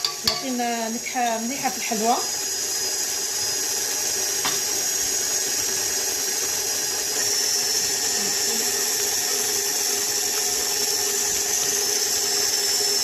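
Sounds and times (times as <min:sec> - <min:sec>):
stand mixer motor running: 0:00.0 - 0:13.0.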